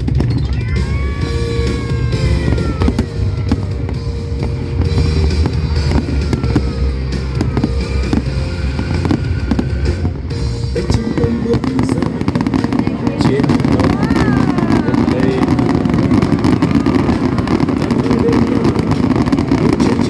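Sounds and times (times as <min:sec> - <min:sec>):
fireworks bursting and crackling: 0:00.0 - 0:20.0
loud music with heavy bass: 0:00.0 - 0:20.0.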